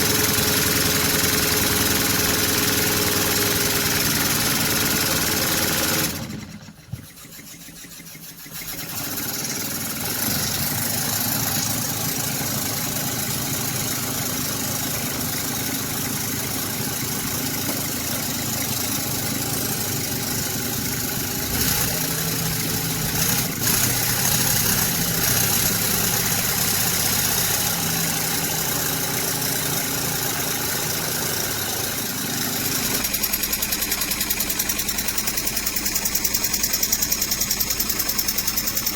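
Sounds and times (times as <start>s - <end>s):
steam engine running with hiss: 0.0s - 38.9s.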